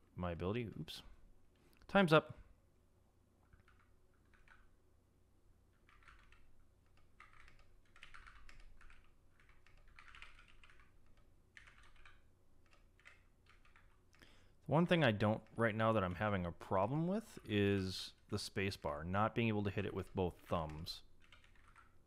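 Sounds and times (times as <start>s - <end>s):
faint keyboard typing: 3.4s - 4.8s, 5.7s - 22.0s.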